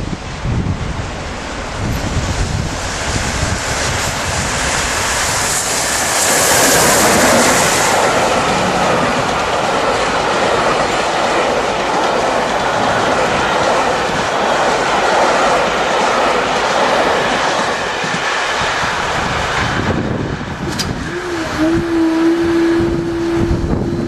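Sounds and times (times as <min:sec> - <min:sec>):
steam locomotive passing: 0:00.0 - 0:24.0
wind buffeting microphone: 0:00.0 - 0:24.0.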